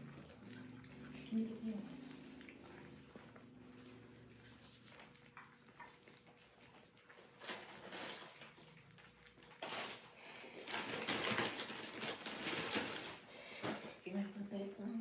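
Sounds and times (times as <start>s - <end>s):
puppies lapping food: 0.0s - 15.0s.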